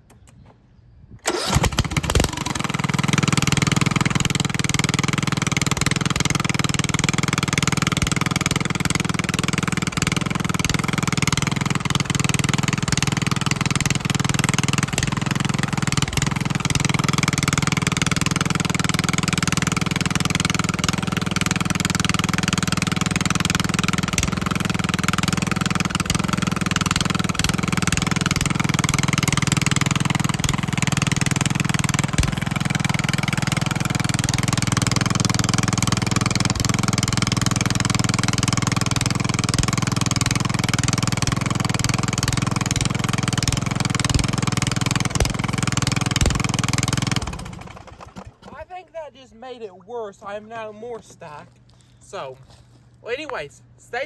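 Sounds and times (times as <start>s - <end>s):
lawnmower engine running: 1.2s - 53.8s.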